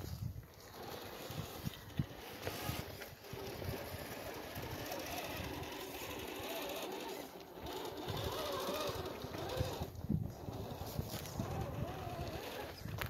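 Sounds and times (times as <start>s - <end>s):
electric motor and gear whir: 0.0s - 13.0s
tires crunching on stones: 0.0s - 13.0s.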